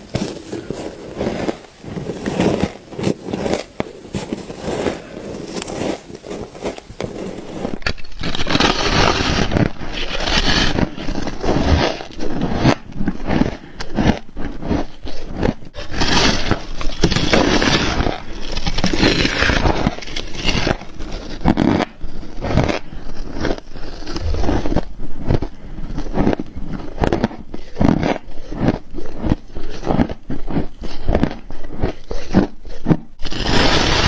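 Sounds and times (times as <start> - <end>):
chewing crunchy ice: 0.1 - 34.0.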